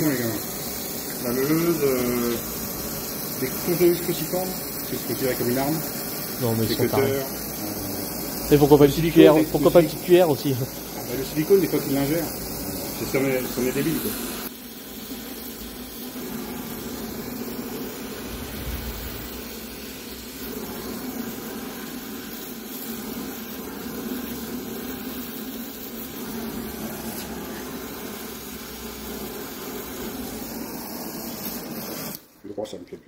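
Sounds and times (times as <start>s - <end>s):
gas torch hissing: 0.0s - 32.6s.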